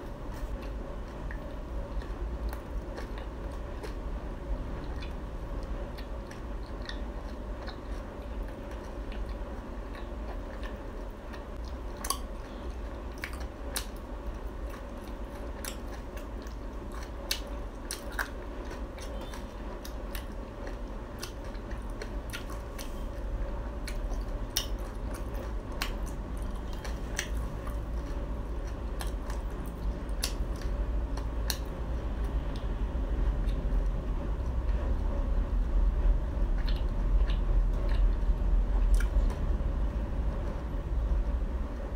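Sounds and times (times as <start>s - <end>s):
crunchy chewing: 0.0s - 34.9s, 36.4s - 39.5s
steady low hum: 0.0s - 41.9s.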